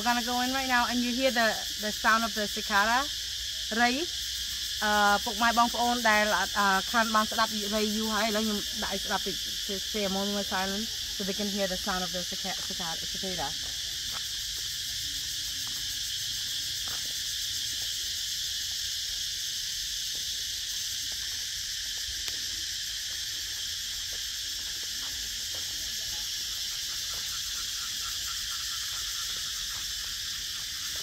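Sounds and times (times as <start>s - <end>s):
cicadas chorus: 0.0s - 31.0s.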